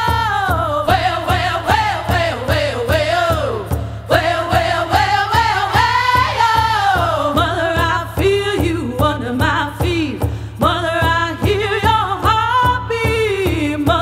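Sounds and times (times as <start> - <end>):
song with vocals over a beat: 0.0 - 14.0.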